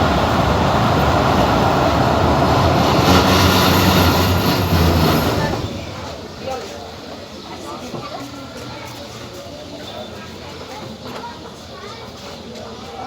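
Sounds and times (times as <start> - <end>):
train running inside carriage: 0.0 - 13.0.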